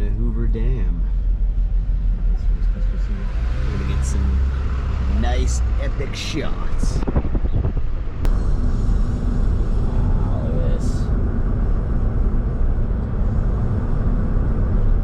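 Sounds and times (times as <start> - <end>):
loud low rumble outdoors: 0.0 - 15.0.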